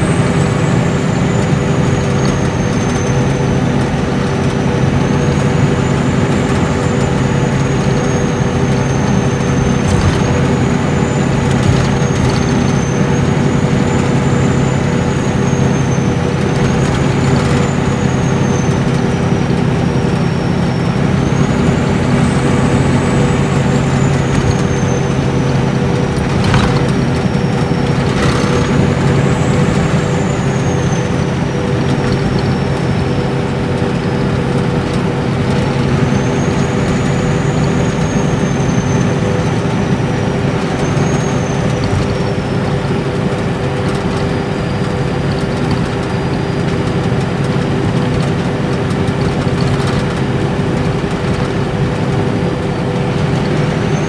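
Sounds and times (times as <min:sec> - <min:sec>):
bus engine hum and road noise: 0:00.0 - 0:54.0
high turbo whine: 0:00.0 - 0:54.0.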